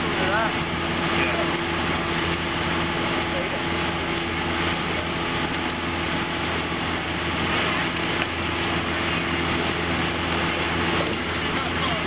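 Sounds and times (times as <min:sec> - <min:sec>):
boat engine droning: 0:00.0 - 0:12.0
rushing water noise: 0:00.0 - 0:12.0.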